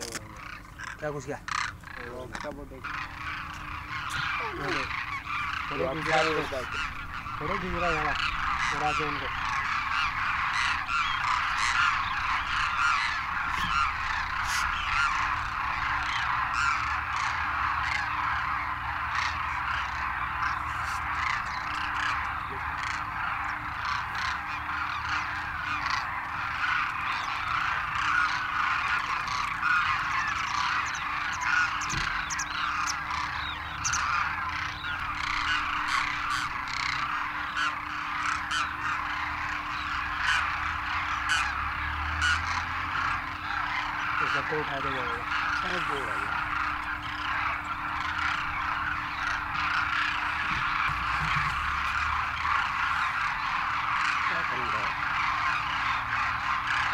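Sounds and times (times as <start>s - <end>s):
flock of cranes calling: 0.0s - 56.9s.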